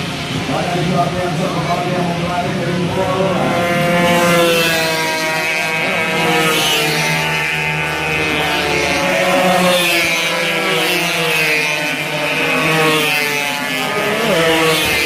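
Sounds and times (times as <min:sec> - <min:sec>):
racing motorcycles at high revs: 0:00.0 - 0:15.0.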